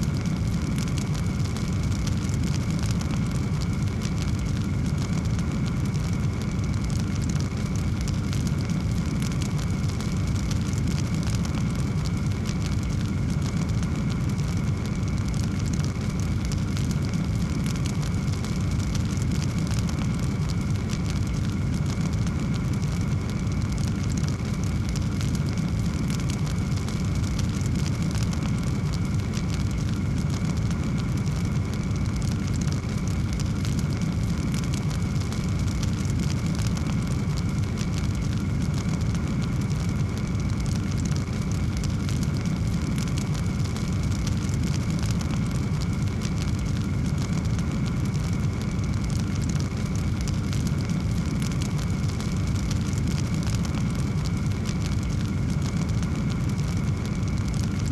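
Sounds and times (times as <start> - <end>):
fire flame rumble: 0.0 - 57.9
wood fire crackling: 0.0 - 57.9.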